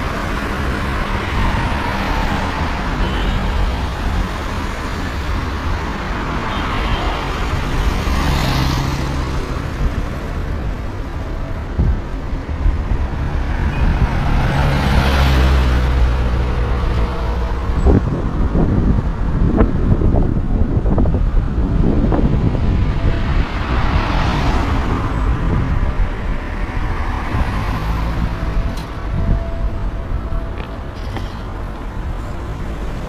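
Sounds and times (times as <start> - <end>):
cars passing: 0.0 - 33.0
loud car pass-bys: 0.0 - 33.0.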